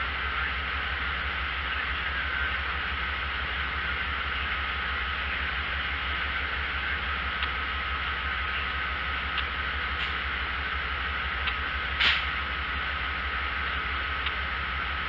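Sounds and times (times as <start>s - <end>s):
diesel locomotive idling: 0.0s - 15.0s
faint steady whine: 0.0s - 15.0s.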